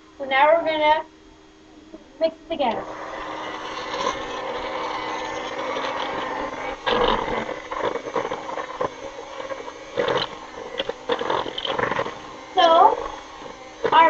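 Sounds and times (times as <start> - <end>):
electric hand mixer running: 2.3 - 14.0.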